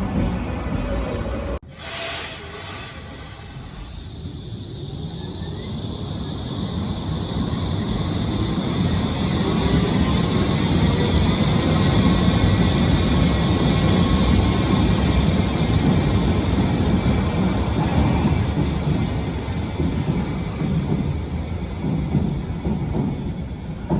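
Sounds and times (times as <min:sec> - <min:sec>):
train rumbling on track: 0:00.0 - 0:23.9.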